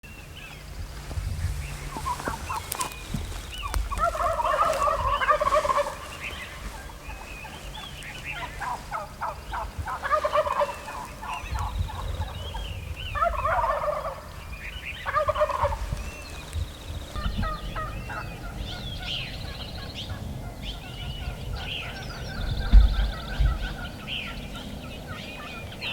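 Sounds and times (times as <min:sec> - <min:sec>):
small birds chirping: 0:00.0 - 0:25.9
turkey gobbling: 0:01.6 - 0:14.4, 0:15.0 - 0:16.0, 0:17.2 - 0:25.9.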